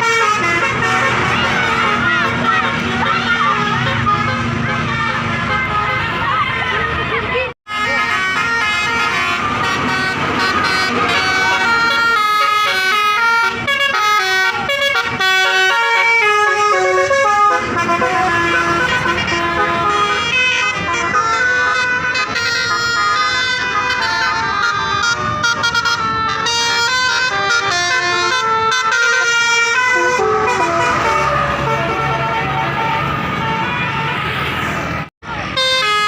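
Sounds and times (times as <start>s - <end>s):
multi-tone bus horn tune: 0.0s - 36.0s.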